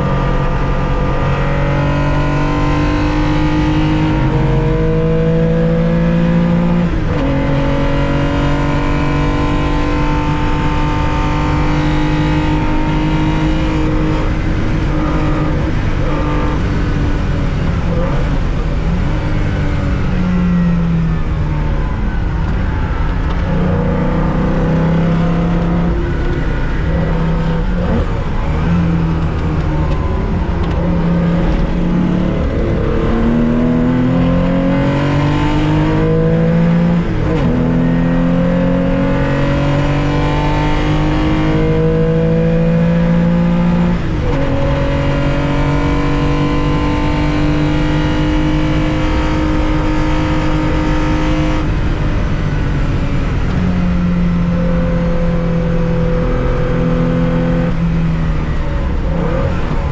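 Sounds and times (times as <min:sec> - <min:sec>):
racing car engine revving: 0:00.0 - 0:19.4, 0:20.4 - 0:59.9.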